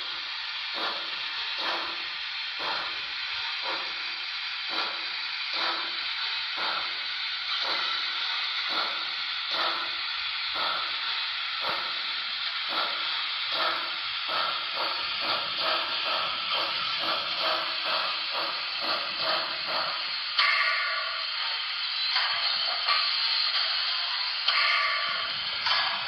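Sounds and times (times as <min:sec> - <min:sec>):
model steam locomotive chuffs: 0:00.0 - 0:26.0
steam hissing: 0:00.0 - 0:26.0.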